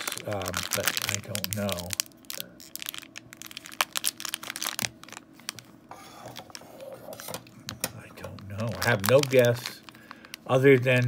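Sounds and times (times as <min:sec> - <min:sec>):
plastic pouch crinkling: 0:00.0 - 0:06.6, 0:07.9 - 0:11.0.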